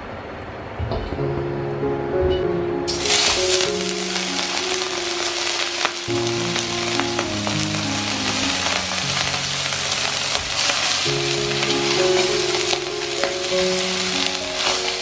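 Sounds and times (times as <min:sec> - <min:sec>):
soft background music: 0:01.0 - 0:15.0
food sizzling in a wok: 0:02.9 - 0:15.0.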